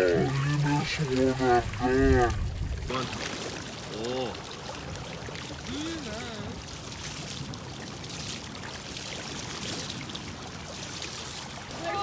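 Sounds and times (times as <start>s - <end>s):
shallow water rushing and splashing: 0.0s - 12.0s.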